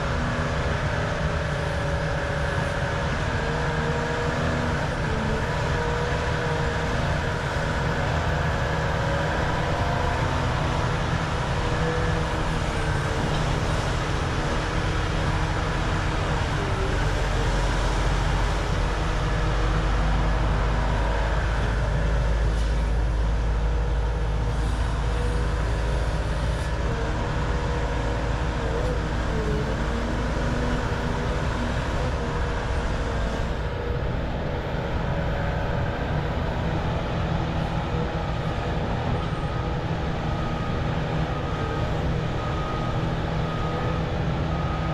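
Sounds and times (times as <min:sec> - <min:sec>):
excavator engine and hydraulics: 0:00.0 - 0:44.9.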